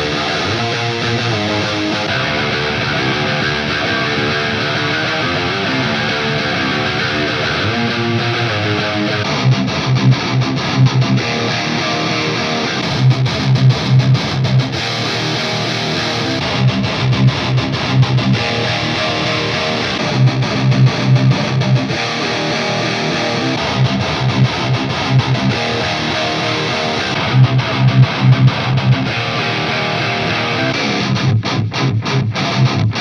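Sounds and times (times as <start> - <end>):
distorted electric guitar riff: 0.0 - 33.0.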